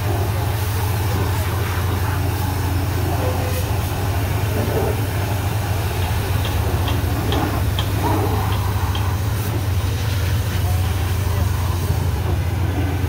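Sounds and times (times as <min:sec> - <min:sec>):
pressure washer machine hum: 0:00.0 - 0:13.0
water jet hissing: 0:00.0 - 0:13.0.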